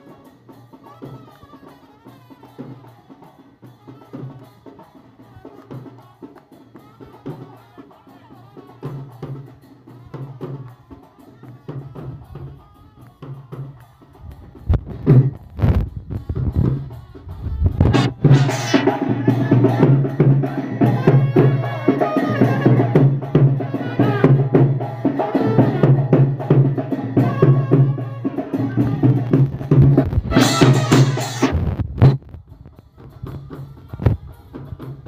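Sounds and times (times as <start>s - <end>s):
loud music with drumbeat: 0.0s - 35.0s.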